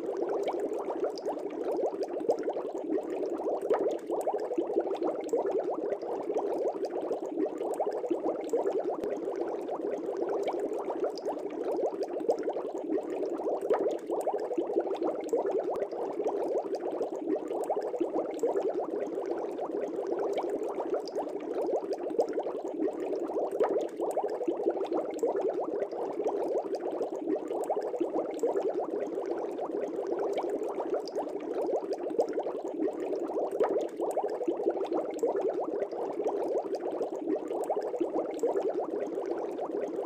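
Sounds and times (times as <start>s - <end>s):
aquarium air bubbling: 0.0s - 40.0s.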